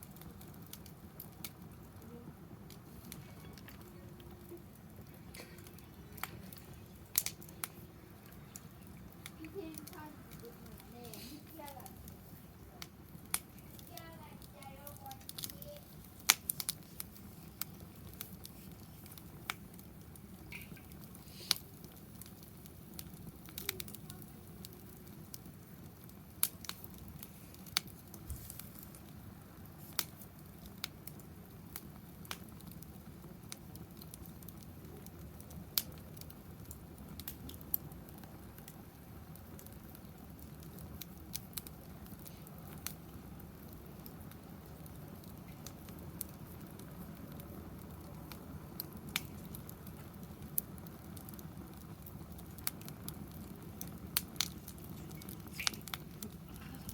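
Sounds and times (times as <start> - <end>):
low steady fire rush: 0.0 - 56.9
wood fire crackling and popping: 0.0 - 56.9.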